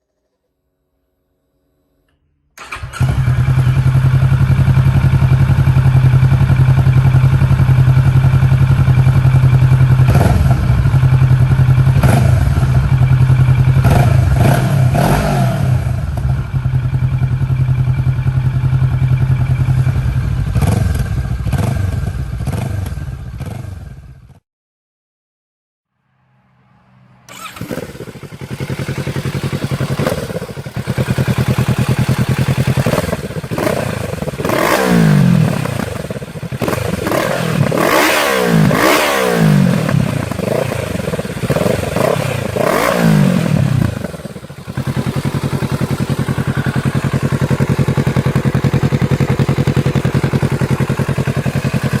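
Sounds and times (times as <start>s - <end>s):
motorcycle idling and revving: 2.6s - 24.4s, 27.3s - 52.0s.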